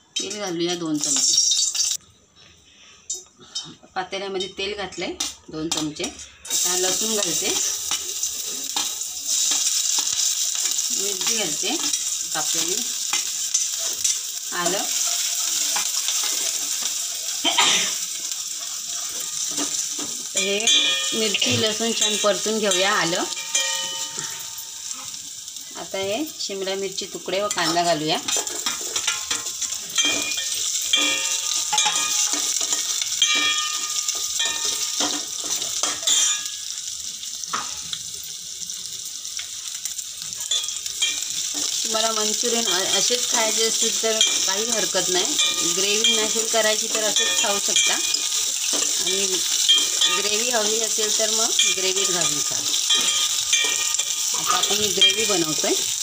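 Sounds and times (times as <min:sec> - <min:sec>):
garlic sizzling in oil: 0:00.2 - 0:02.0, 0:04.2 - 0:56.0.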